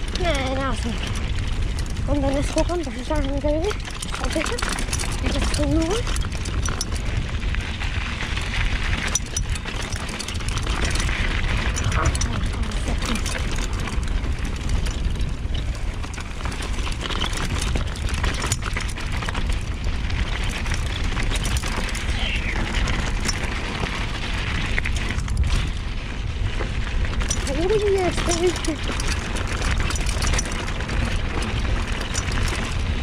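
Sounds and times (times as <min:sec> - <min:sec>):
bike rattling clicks: 0:00.0 - 0:33.0
tyres crunching on gravel: 0:00.0 - 0:33.0
wind buffeting microphone: 0:00.0 - 0:33.0.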